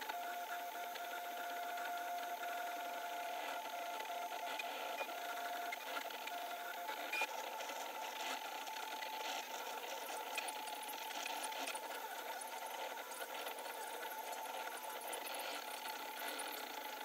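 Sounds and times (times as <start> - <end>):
three d printer stepper motors: 0.0 - 17.0.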